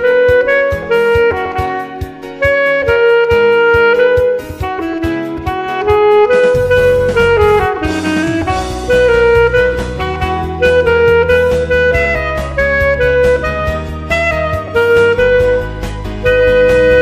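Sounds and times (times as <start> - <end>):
alto saxophone melody: 0.0 - 17.0
backing track with drums and bass: 0.0 - 17.0.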